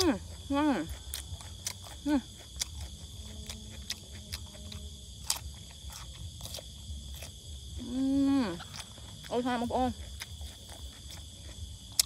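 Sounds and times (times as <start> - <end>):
person chewing with open mouth: 0.0 - 12.0.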